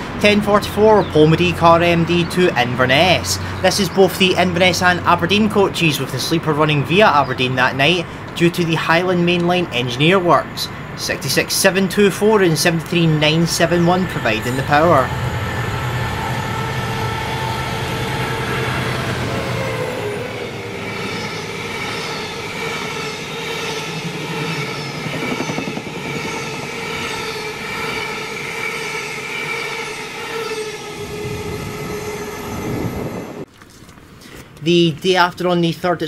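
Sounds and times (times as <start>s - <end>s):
diesel locomotive engine drone: 0.0s - 33.5s
train coaches rumbling by: 0.0s - 33.5s
high wheel squeal: 0.9s - 33.5s.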